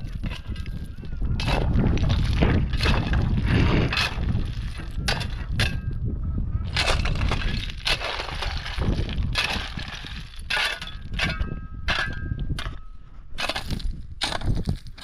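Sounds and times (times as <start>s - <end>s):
low rumble: 0.0s - 14.6s
shovel digging into stony ground: 1.4s - 5.9s, 6.7s - 15.0s.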